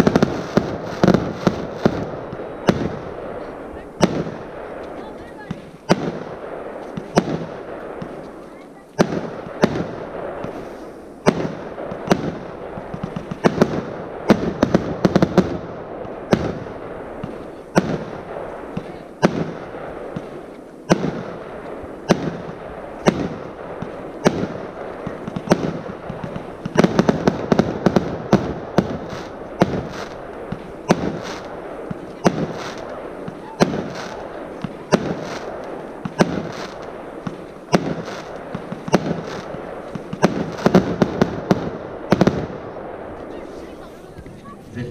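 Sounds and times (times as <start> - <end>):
fireworks cake bangs: 0.0 - 44.9.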